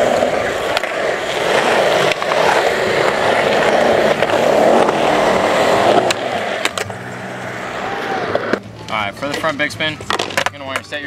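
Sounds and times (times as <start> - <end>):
skateboard wooden clacks: 0.0 - 6.9, 8.3 - 11.0
skateboard wheels rolling on concrete: 0.0 - 11.0.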